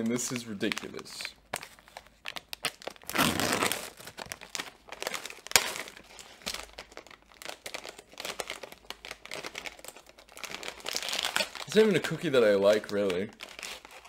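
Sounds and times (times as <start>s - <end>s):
plastic bag crinkling: 0.0s - 14.0s
plastic bag tearing: 2.4s - 14.0s.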